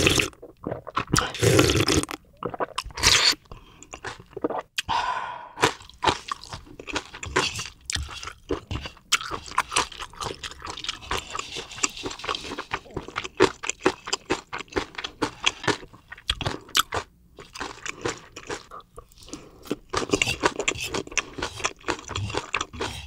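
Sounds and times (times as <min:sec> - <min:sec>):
chewing crunchy food: 0:00.0 - 0:04.9, 0:05.6 - 0:23.0.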